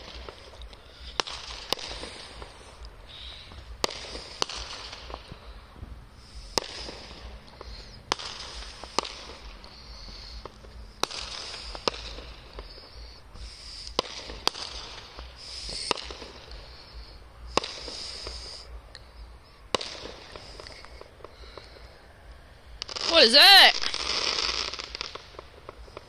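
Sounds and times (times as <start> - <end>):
distant fireworks bangs: 0.0 - 18.8, 19.6 - 21.9, 22.7 - 26.0
high hiss: 0.0 - 22.1.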